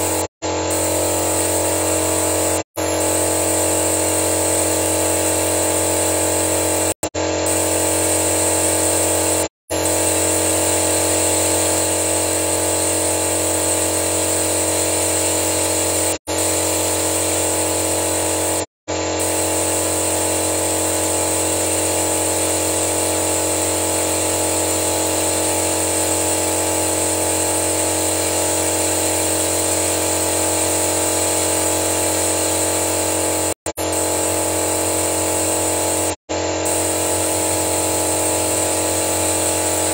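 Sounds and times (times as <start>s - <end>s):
machine hum with even tones: 0.0s - 39.9s.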